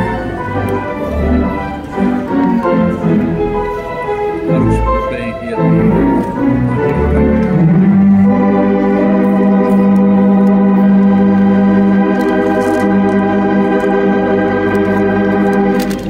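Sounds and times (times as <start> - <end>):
pipe organ playing: 0.0 - 16.0.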